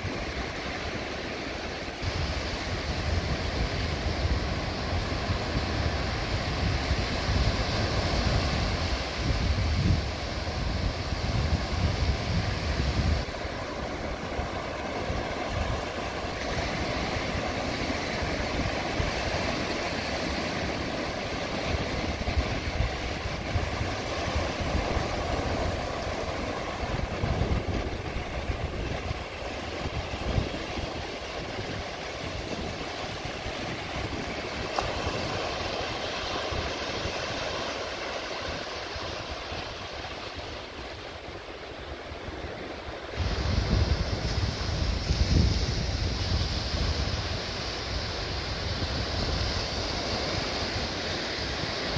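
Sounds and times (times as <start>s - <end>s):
waves washing up sand: 0.0s - 51.9s
wind rumbling on microphone: 0.0s - 51.9s.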